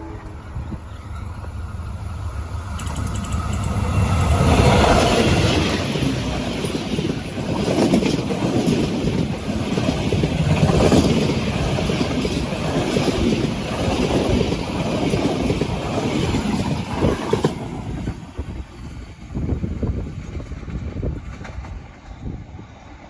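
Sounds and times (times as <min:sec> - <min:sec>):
train passing on tracks: 0:00.0 - 0:23.0.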